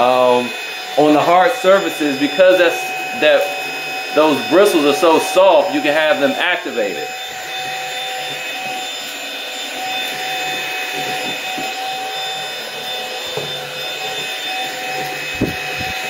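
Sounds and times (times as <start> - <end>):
high whining tones: 0.0 - 16.0
stick vacuum running: 0.0 - 16.0.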